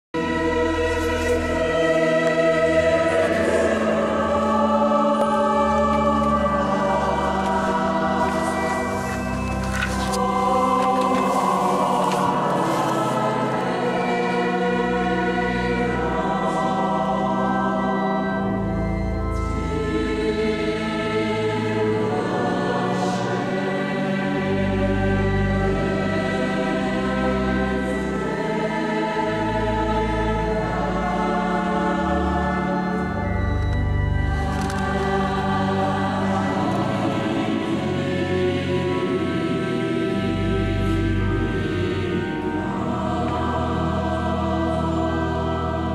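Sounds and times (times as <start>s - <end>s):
choir singing echoing chords: 0.2s - 45.9s.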